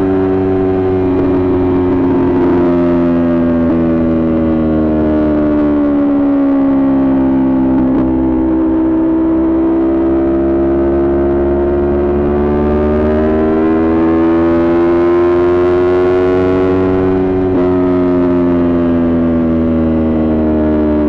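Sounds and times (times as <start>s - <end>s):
motorcycle engine revving under load: 0.0s - 21.0s.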